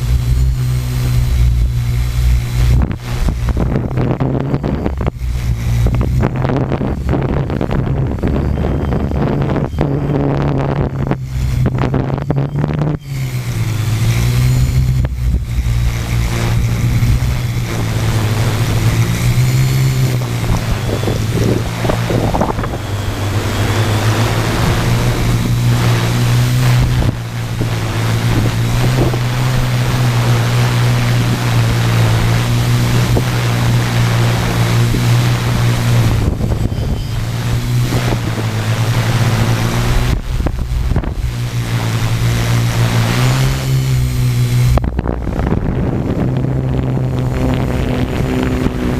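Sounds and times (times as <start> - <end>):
drone motors humming: 0.0 - 48.9
wind buffeting microphone: 0.0 - 48.9.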